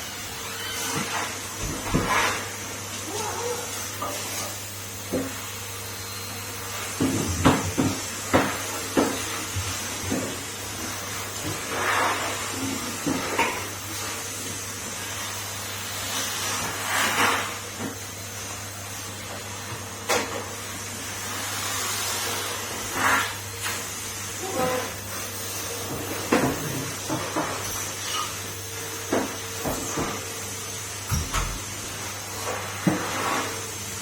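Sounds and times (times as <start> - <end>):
vacuum cleaner droning: 0.0 - 34.0.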